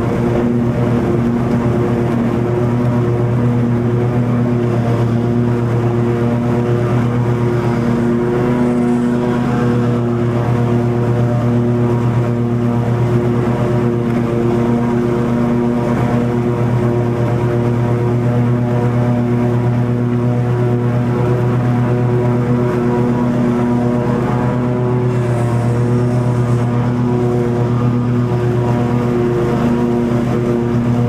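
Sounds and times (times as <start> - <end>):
mower engine droning: 0.0 - 31.0.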